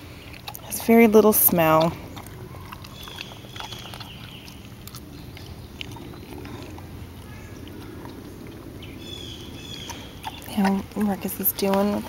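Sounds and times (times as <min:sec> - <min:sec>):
puppy gnawing and chewing: 0:00.0 - 0:12.0
wet chewing crunches: 0:00.0 - 0:12.0.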